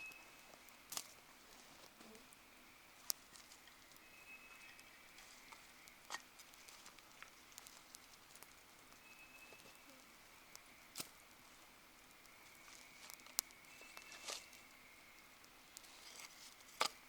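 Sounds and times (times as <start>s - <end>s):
faint hiss: 0.0s - 17.0s
wood fire crackling: 0.0s - 17.0s.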